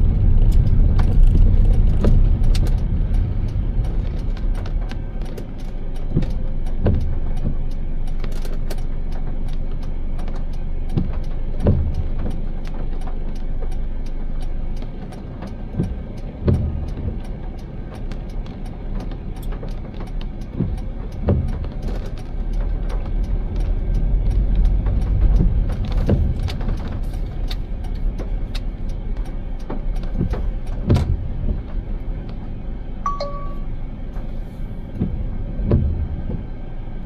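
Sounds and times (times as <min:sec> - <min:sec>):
car road rumble: 0:00.0 - 0:37.0
faint regular ticks: 0:00.3 - 0:30.8.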